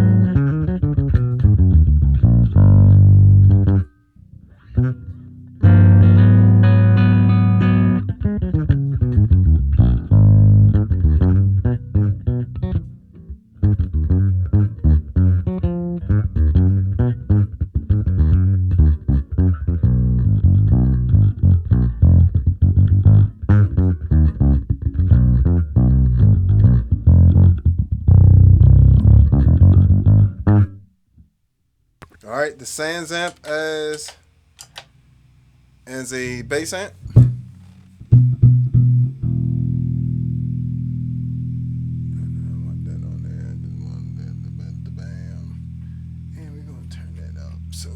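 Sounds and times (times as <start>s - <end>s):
electric bass riff: 0.0s - 30.9s, 35.5s - 47.9s.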